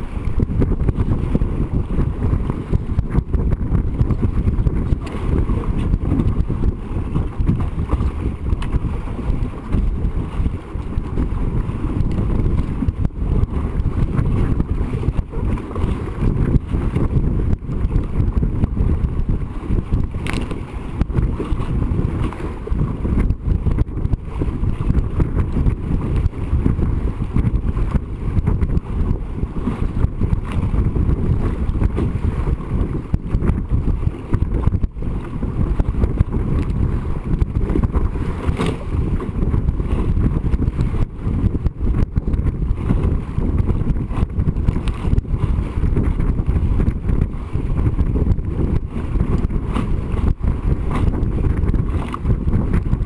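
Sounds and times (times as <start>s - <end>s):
water rushing along hull: 0.0s - 53.0s
wind buffeting microphone: 0.0s - 53.0s.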